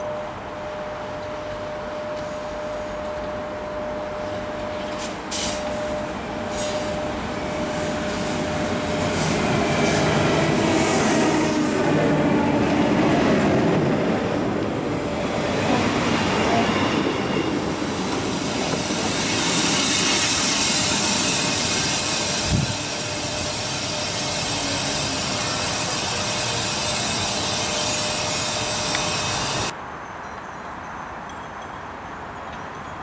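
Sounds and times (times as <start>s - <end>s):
electric train rolling past: 0.0s - 29.8s
train running noise: 0.0s - 29.8s.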